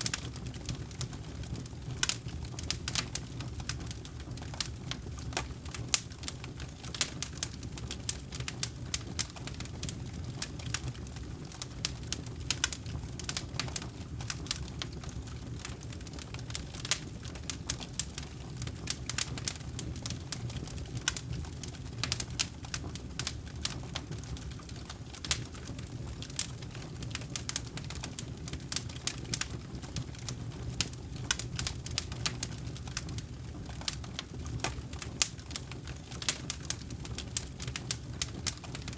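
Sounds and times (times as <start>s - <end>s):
campfire crackling: 0.0s - 38.9s
low rumble of flames: 0.0s - 38.9s.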